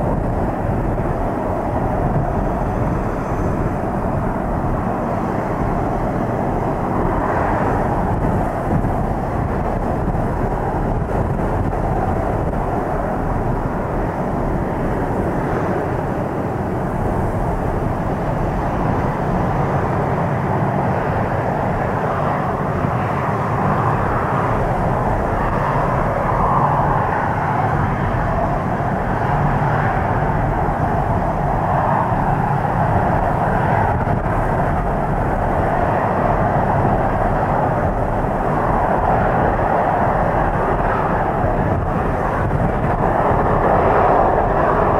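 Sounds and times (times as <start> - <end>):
jet taxiing rumble: 0.0 - 44.9
wind rumbling on microphone: 0.0 - 44.9.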